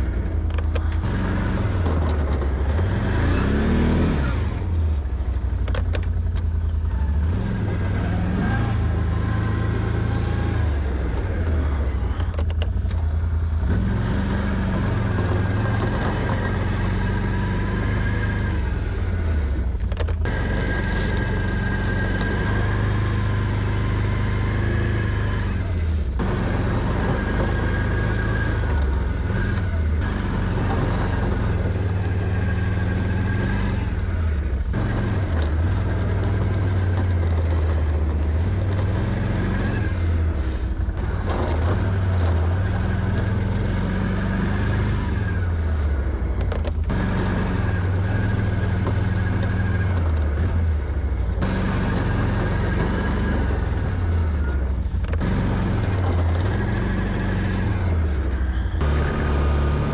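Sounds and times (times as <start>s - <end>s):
atv engine revving under load: 0.0s - 59.9s.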